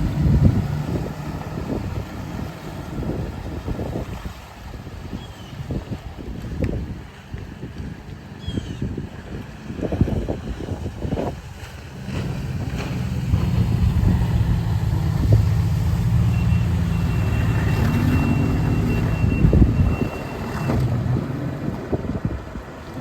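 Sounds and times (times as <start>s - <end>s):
outboard boat engine running: 0.0s - 23.0s.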